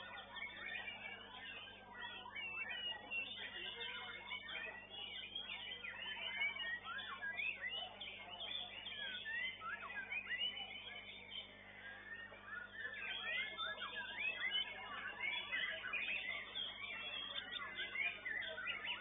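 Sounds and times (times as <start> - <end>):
birds singing whistled phrases: 0.0 - 19.0.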